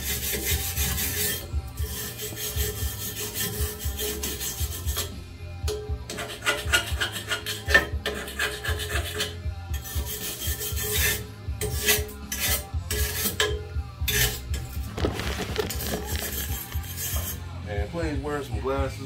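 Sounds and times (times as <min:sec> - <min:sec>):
wire brush scraping metal: 0:00.0 - 0:05.2, 0:06.1 - 0:17.5.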